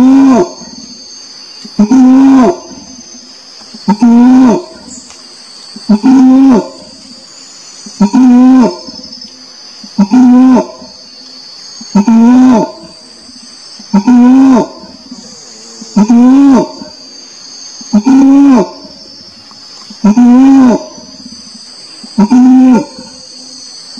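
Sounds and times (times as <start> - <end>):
steady high hiss: 0.0 - 23.9
orangutan calling: 1.6 - 5.1, 5.7 - 7.2, 7.8 - 11.1, 11.8 - 23.6.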